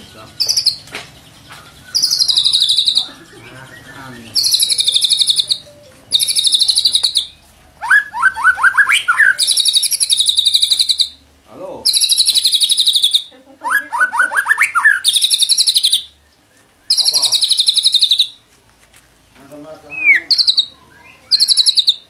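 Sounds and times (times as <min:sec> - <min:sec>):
bird buzzy trills: 0:00.0 - 0:18.4, 0:19.9 - 0:22.0.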